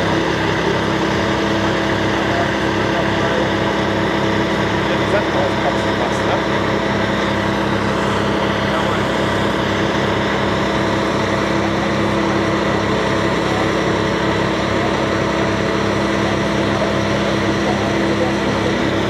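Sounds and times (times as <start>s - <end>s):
diesel engine running at raised revs: 0.0s - 19.0s
thin steady hydraulic whine: 0.0s - 19.0s.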